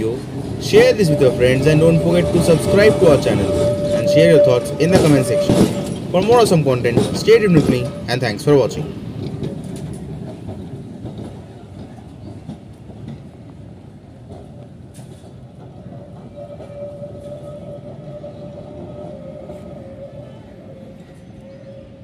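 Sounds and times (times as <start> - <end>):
tram rumbling on tracks: 0.0 - 22.0.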